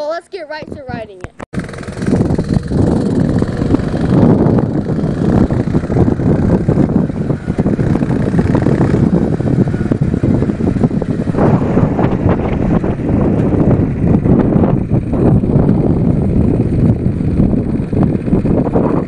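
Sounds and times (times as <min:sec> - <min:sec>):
wind buffeting microphone: 0:00.1 - 0:19.0
small engine running: 0:01.6 - 0:19.0.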